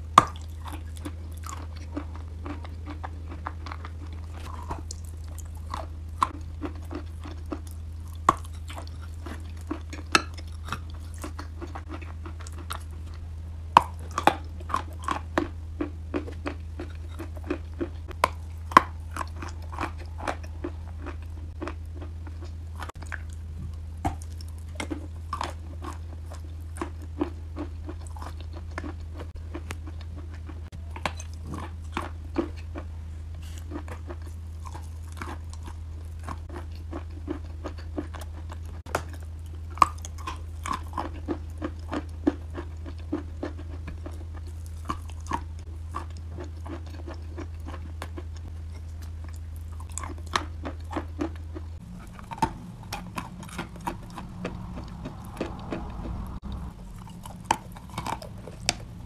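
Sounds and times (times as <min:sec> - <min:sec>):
chalk crunching while chewed: 0:00.0 - 0:59.0
low hum: 0:00.0 - 0:59.0.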